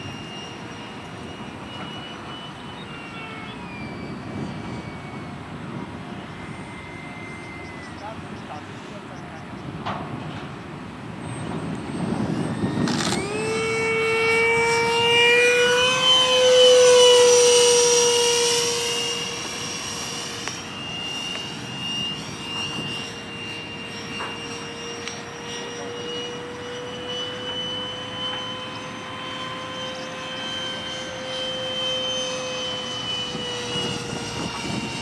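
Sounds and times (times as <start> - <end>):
model jet engine whine: 0.0 - 35.0.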